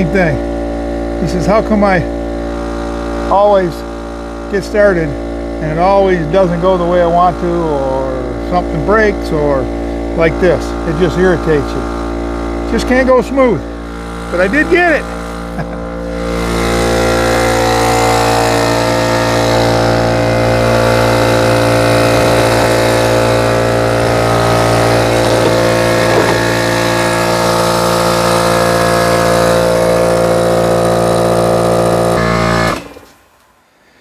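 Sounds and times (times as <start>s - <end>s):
air compressor running: 0.0s - 34.0s.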